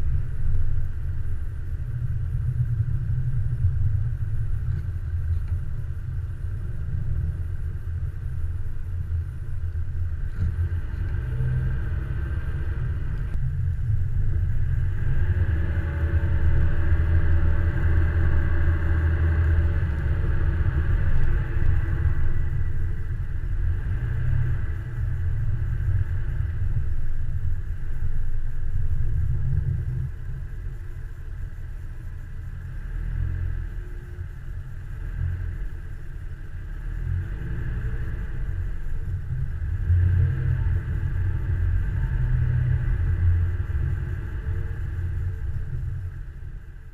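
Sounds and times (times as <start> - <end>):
car driving on snow: 0.0 - 46.9.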